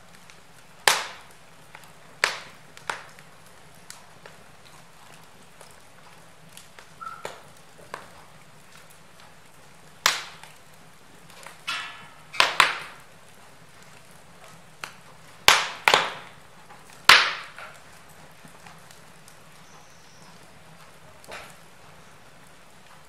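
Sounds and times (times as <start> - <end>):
wood fire popping and snapping: 0.0 - 23.0.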